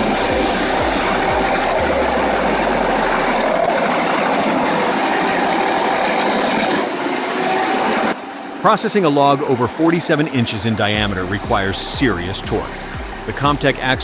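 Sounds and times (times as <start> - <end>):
heavy machinery running: 0.0 - 14.0.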